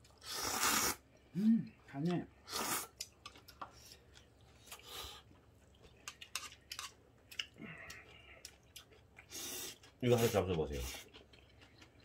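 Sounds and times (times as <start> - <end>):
person chewing quietly: 0.0 - 12.0.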